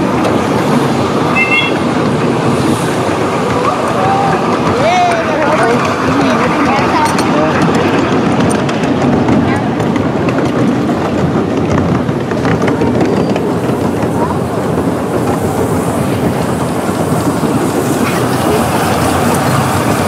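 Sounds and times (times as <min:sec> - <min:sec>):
miniature train wheels rumbling and clattering: 0:00.0 - 0:20.0.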